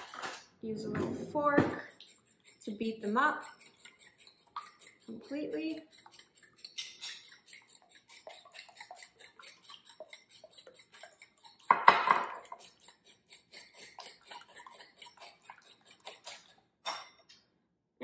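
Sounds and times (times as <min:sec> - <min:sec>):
fork beating eggs in ceramic bowl: 0:01.0 - 0:17.4
fork clattering against bowl: 0:01.9 - 0:17.2.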